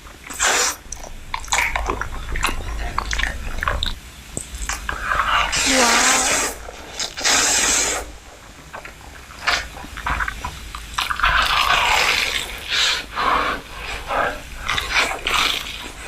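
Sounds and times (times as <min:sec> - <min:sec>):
biting and chewing: 0:00.0 - 0:16.0.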